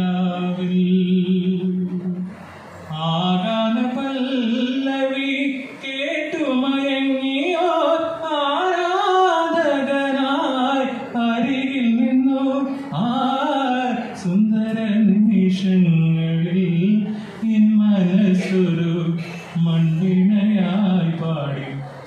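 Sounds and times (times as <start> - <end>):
man singing unaccompanied: 0.0 - 21.9.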